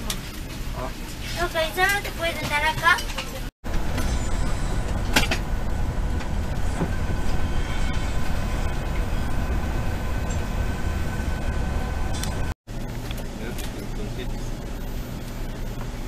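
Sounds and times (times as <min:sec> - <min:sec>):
train rail rumble: 0:00.0 - 0:16.0.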